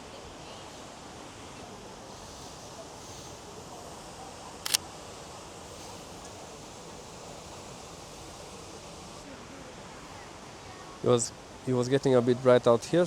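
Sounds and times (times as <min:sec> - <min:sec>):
outdoor ambient noise: 0:00.0 - 0:13.0.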